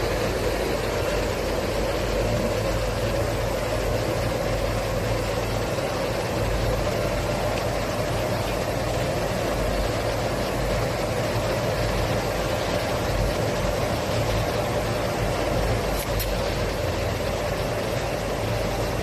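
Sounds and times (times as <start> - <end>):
machinery humming and whirring: 0.0 - 19.0.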